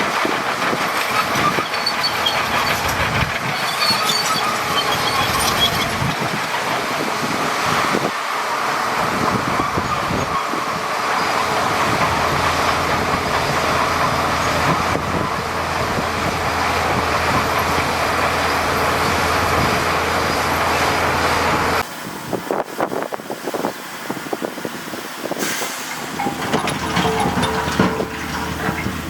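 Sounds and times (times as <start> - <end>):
heavy diesel machinery running: 0.0 - 29.0.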